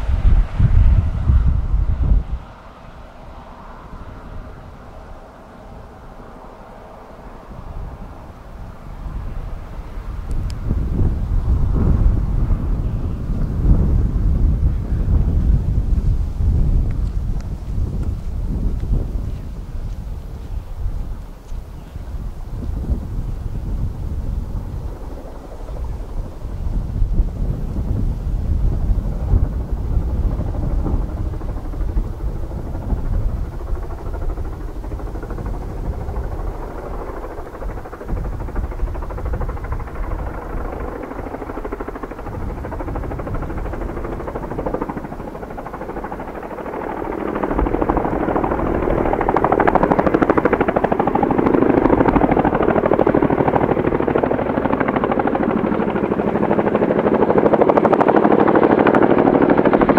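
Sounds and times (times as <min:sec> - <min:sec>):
helicopter rotor chop: 0:00.0 - 0:59.9.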